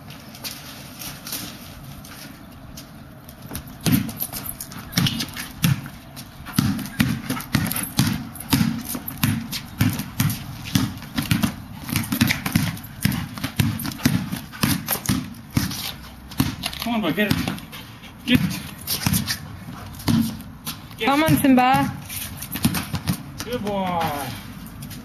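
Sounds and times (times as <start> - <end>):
ball bouncing on stone patio: 2.2 - 25.0.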